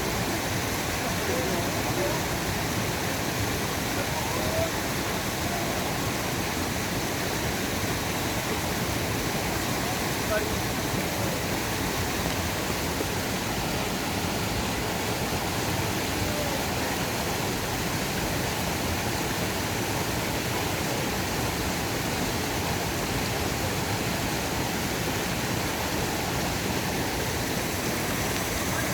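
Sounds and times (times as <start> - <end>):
stream rushing: 0.0 - 28.9.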